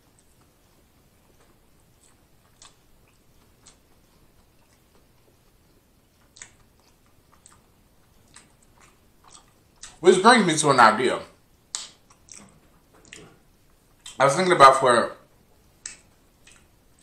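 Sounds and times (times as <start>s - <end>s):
chewing food: 0.0s - 10.0s, 11.7s - 14.2s, 15.6s - 17.0s.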